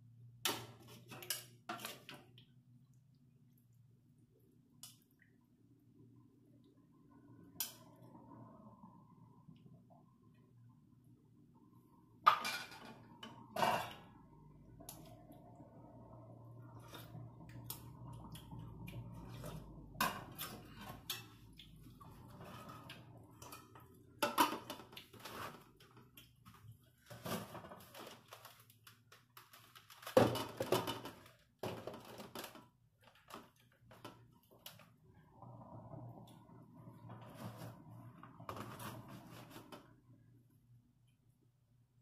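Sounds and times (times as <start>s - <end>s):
low steady hum: 0.0s - 32.1s, 32.7s - 42.0s.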